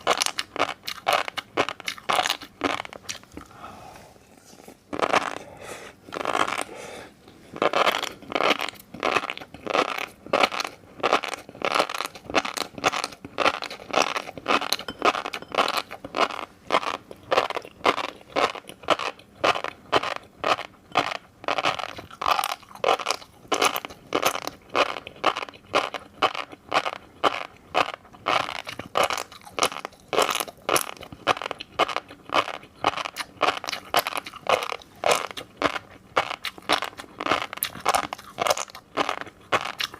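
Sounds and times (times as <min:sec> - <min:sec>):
crunchy chewing pops: 0:07.6 - 0:39.9.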